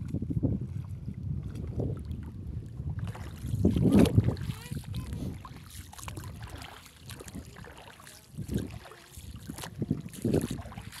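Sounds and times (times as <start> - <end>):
shallow seawater lapping: 0.0 - 11.0
wind buffeting microphone: 0.0 - 11.0.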